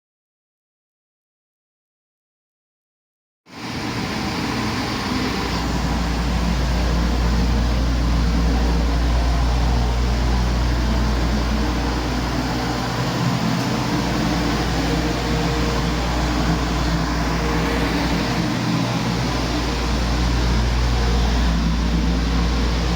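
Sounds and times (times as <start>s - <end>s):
diesel engine droning: 3.6s - 22.9s.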